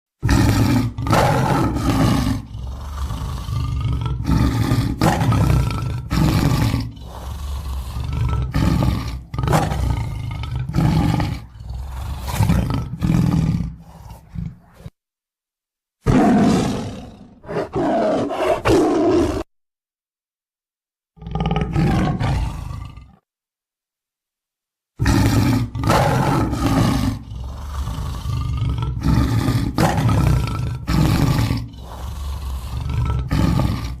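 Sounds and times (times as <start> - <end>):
tiger roaring and growling: 0.2 - 15.0, 16.0 - 19.5, 21.2 - 23.2, 25.0 - 34.0.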